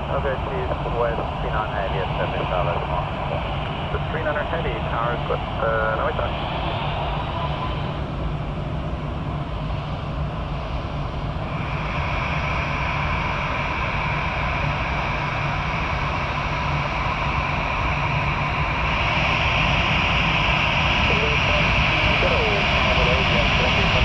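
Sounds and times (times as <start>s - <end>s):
high-pitched engine whine: 0.0s - 24.0s
jet engines running: 0.0s - 24.0s.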